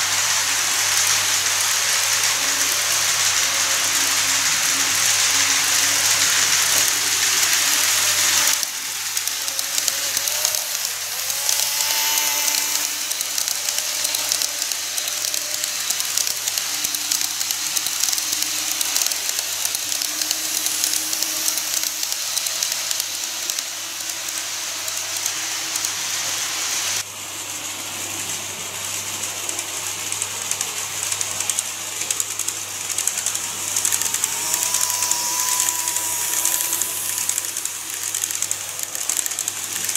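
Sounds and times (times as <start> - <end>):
electric motor whine: 0.0 - 27.0, 30.2 - 39.9
model train wheels rattling: 0.0 - 27.0, 28.0 - 39.9.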